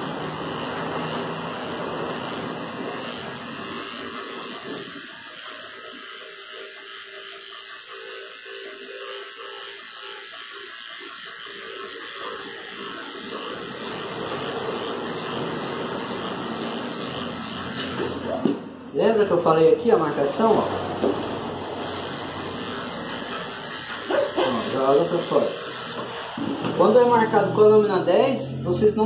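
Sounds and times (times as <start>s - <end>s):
electric clipper running: 0.0s - 18.9s, 19.5s - 29.0s.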